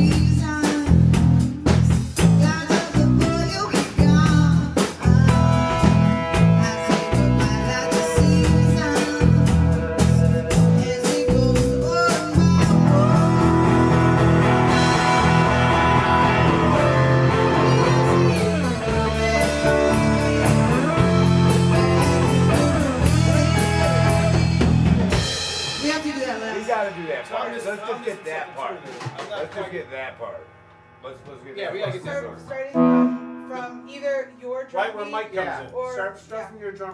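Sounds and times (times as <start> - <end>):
electric guitars: 0.0 - 34.5
drum kit: 0.0 - 36.0
bass guitar: 0.0 - 36.4.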